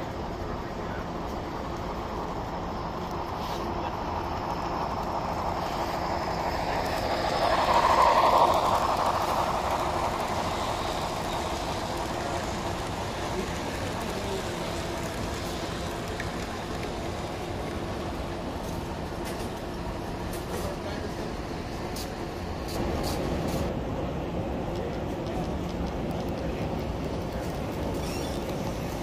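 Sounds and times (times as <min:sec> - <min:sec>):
model train running: 0:00.0 - 0:29.0.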